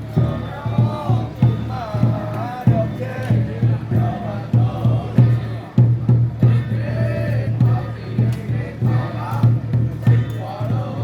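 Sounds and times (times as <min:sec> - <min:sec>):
people chanting together: 0:00.0 - 0:11.0
steady drum beat: 0:00.0 - 0:11.0.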